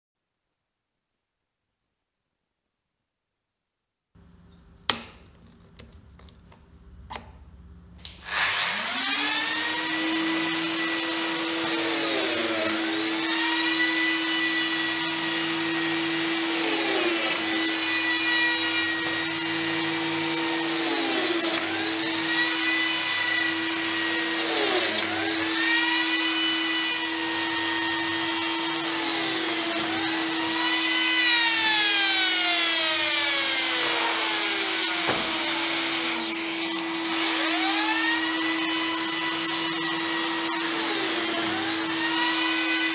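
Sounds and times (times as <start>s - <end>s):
biscuit joiner motor cutting: 8.0s - 42.9s.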